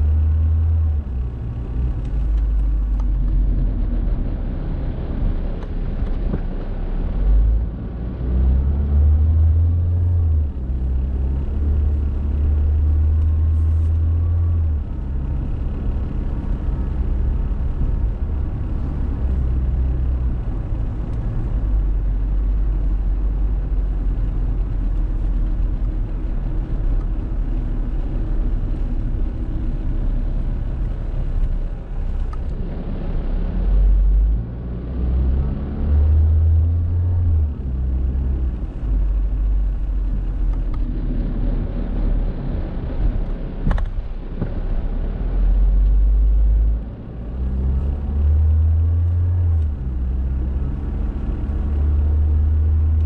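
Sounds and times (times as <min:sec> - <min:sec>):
car interior road rumble: 0:00.0 - 0:53.0.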